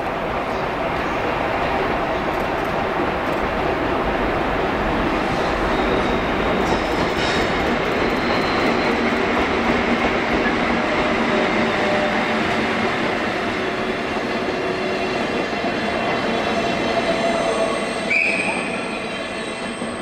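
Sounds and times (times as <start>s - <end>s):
steel train wheels on rails: 0.0s - 20.0s.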